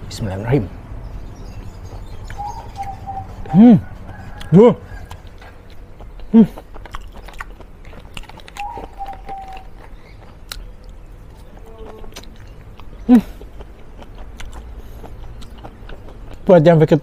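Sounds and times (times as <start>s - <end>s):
wet chewing mouth sounds: 1.8s - 16.6s.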